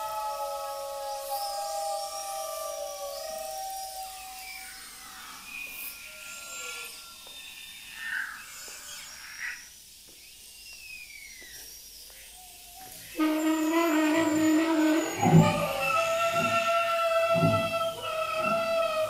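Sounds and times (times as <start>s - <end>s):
sliding whistle-like tones: 0.0s - 19.0s.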